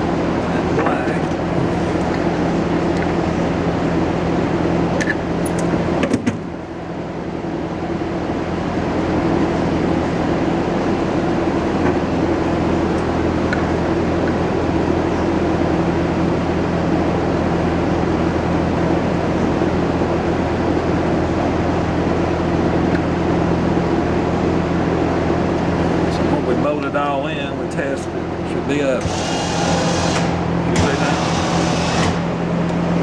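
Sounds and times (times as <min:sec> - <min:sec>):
machine droning hum: 0:00.0 - 0:33.0.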